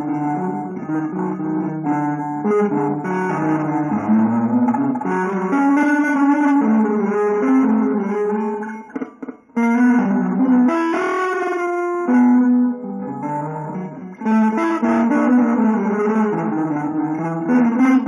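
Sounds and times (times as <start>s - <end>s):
guitar playing notes and chords: 0.0s - 18.0s.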